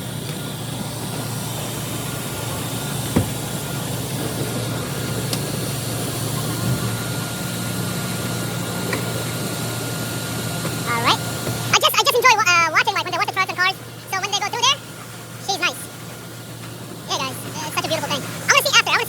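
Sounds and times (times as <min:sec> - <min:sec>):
faint whine: 0:00.0 - 0:19.0
pickup engine idling: 0:00.0 - 0:19.0.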